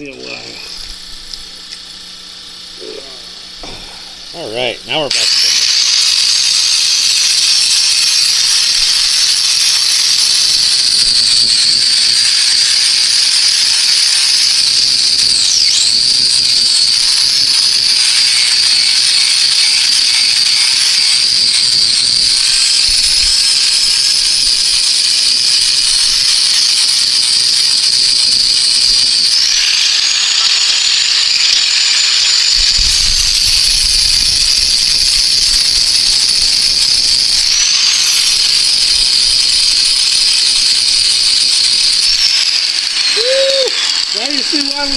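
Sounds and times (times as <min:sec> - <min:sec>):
angle grinder wire wheel whine: 0:00.0 - 0:44.9.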